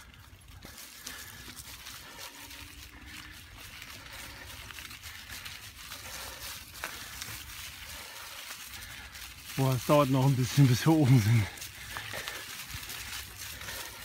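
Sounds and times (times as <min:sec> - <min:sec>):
dry leaves crunching: 0:00.0 - 0:14.0.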